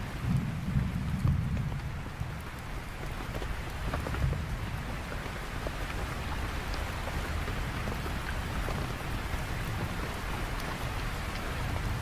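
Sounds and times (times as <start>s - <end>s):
continuous low rumble: 0.0s - 12.0s
steady rain falling: 0.0s - 12.0s.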